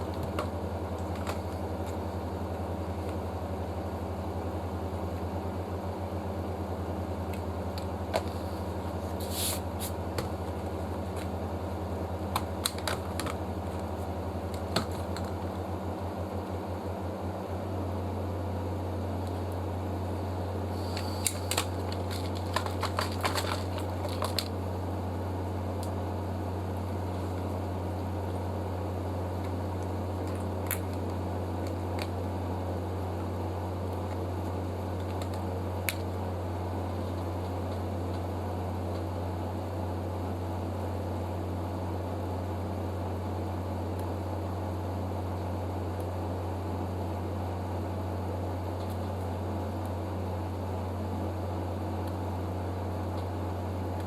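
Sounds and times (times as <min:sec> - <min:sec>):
fan-like motor hum: 0:00.0 - 0:54.0.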